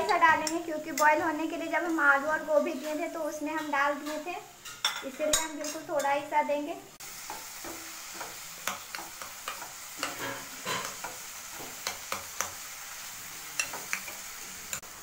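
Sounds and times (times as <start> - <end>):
faint sizzle of frying: 0.0 - 15.0.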